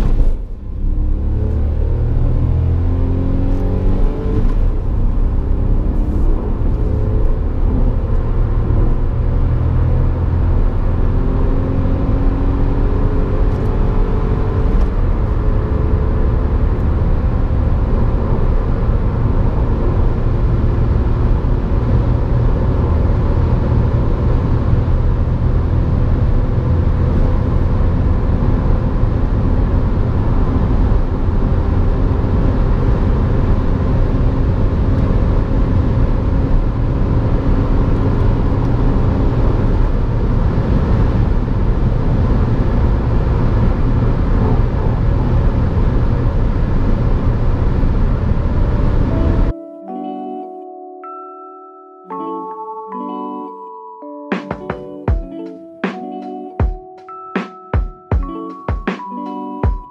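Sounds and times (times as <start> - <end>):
car engine accelerating: 0.0 - 49.5
road and wind noise: 0.0 - 49.6.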